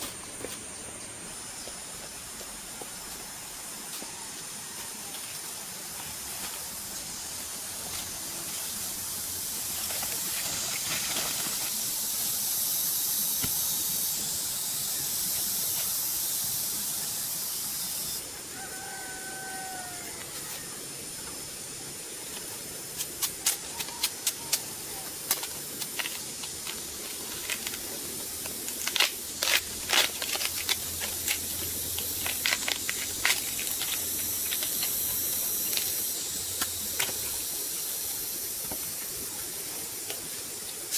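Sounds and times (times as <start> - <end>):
steady high hiss: 0.0 - 40.9.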